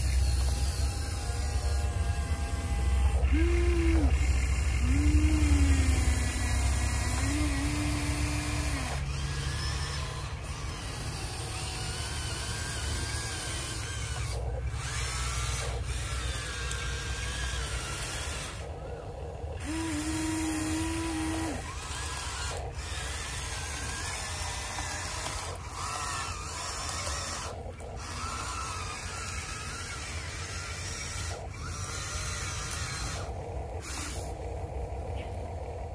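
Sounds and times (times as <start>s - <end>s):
toy excavator motors whining: 0.0s - 35.9s.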